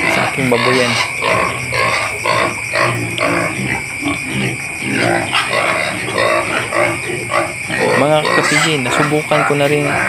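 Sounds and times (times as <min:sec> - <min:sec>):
young pigs grunting: 0:00.0 - 0:10.0.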